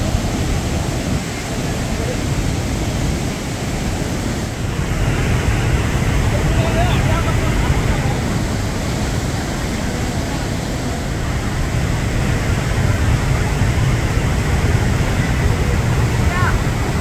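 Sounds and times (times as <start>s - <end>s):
heavy low rumble: 0.0s - 17.0s
river roaring over rocks: 0.0s - 17.0s.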